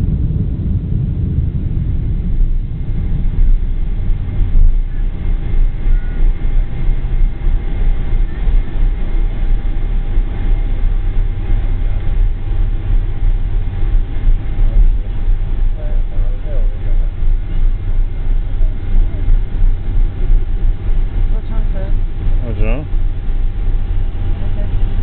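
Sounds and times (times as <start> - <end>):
jet engines rumbling in cabin: 0.0 - 25.0.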